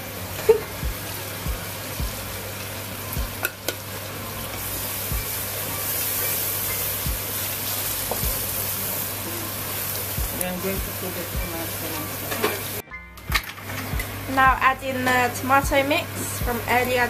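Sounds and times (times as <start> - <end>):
onions sizzling in a pot: 0.0 - 17.0.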